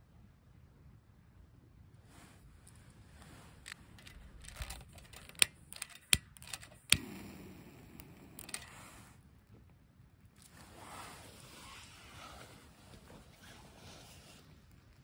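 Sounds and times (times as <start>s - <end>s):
soft low hiss: 1.6s - 15.0s.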